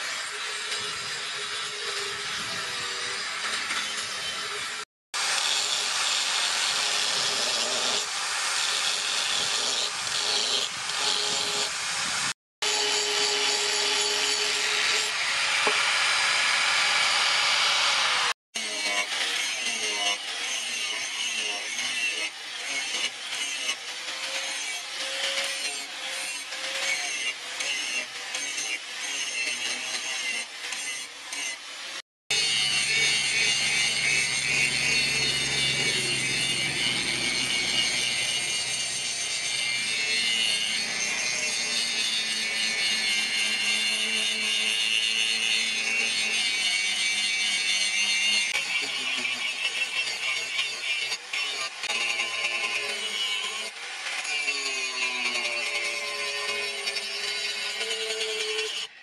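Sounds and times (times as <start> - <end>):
angle grinder grinding steel: 0.0 - 59.0.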